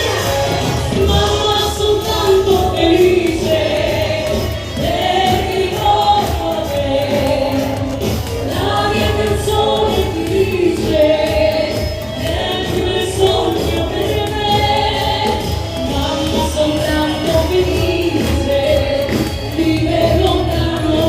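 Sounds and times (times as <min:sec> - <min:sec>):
loud music with steady beat: 0:00.0 - 0:21.0
voices singing together: 0:00.0 - 0:21.0.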